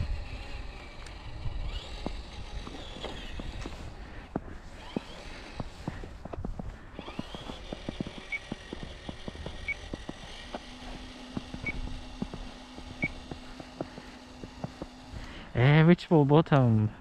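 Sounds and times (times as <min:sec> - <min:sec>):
faint electric motor whine: 0:00.0 - 0:17.0.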